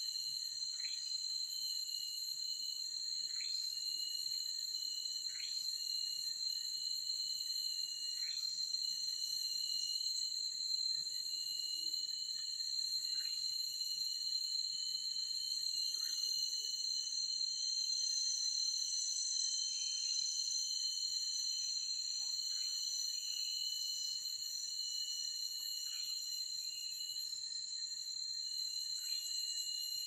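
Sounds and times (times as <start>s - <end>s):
insects chorus: 0.0s - 30.0s.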